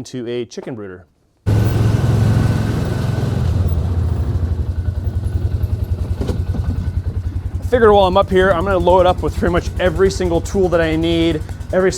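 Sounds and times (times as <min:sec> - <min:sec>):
vehicle engine running: 0:01.5 - 0:11.9.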